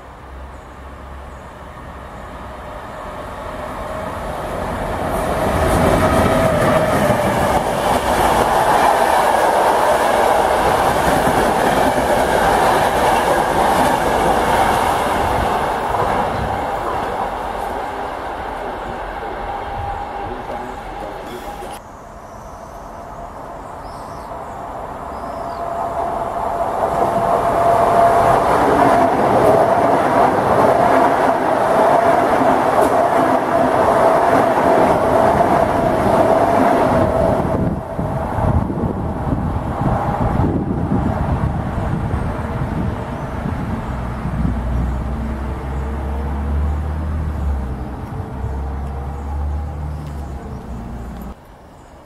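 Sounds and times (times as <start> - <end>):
passenger train passing: 0.0 - 52.0.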